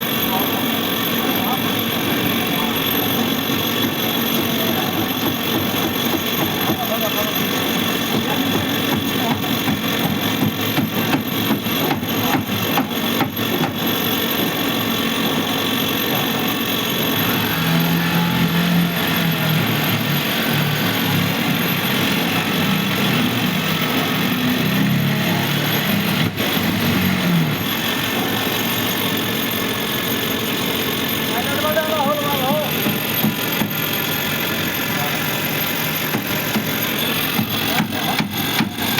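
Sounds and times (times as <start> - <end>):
construction machinery running: 0.0 - 38.9.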